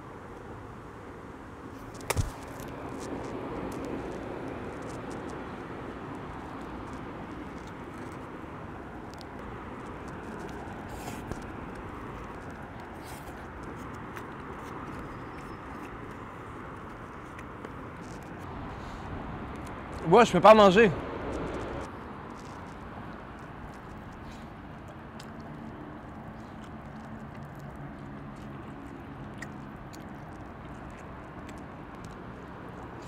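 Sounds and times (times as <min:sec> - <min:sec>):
distant street traffic hum: 0:00.0 - 0:33.0.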